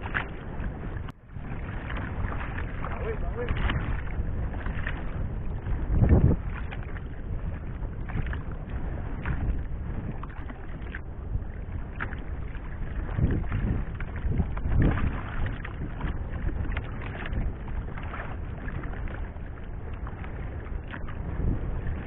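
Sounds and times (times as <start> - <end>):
water slapping against boat hull: 0.0 - 22.0
wind noise on microphone: 0.0 - 22.0.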